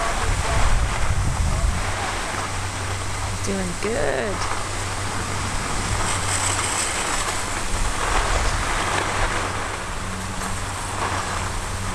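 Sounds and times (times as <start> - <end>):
low steady hum: 0.0 - 11.9
skis sliding over snow: 0.0 - 11.9
wind on microphone: 0.0 - 11.9.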